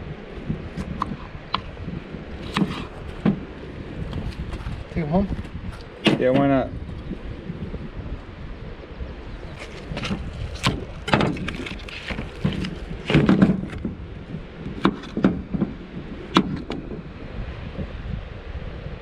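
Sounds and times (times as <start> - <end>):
low rumble of wind or water: 0.0 - 19.0.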